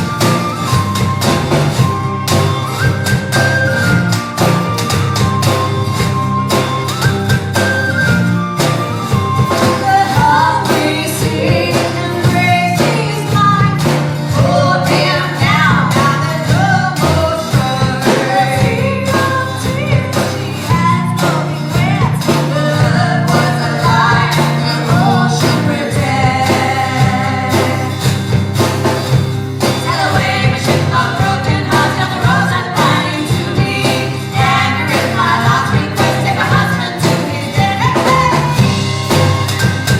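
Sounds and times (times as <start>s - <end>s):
live country-rock band: 0.0s - 39.9s
steady drum beat: 0.0s - 39.9s.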